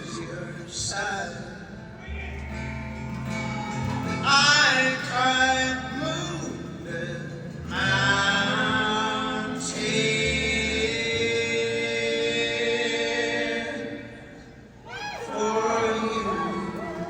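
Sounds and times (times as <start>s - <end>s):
male voices singing in harmony: 0.0s - 2.5s, 3.4s - 17.0s.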